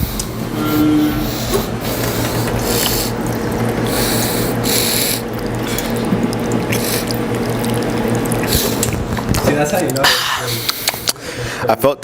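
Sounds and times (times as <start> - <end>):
person sipping water: 0.0 - 11.3
drinking fountain water splashing: 0.0 - 11.6
steady low hum: 0.0 - 11.7.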